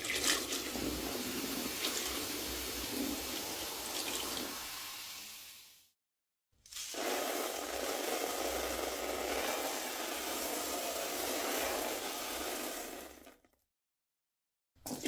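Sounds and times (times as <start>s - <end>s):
toilet flushing: 0.0s - 5.7s, 6.7s - 13.4s.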